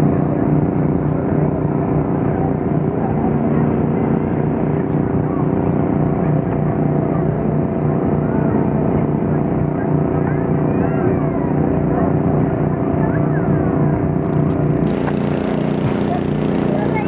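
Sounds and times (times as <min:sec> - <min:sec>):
engine droning: 0:00.0 - 0:17.0
faint crowd chatter: 0:00.0 - 0:17.0.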